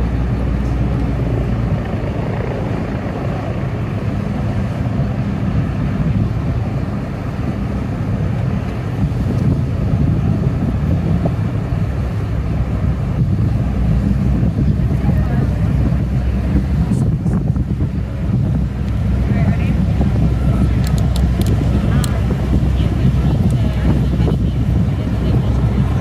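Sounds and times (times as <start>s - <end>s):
low engine rumble: 0.0s - 26.0s
wind on microphone: 0.0s - 26.0s.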